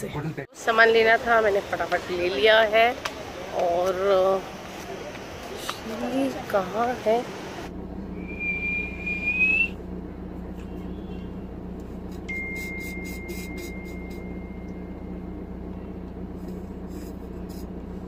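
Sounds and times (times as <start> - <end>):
low car cabin hum: 1.4 - 18.0.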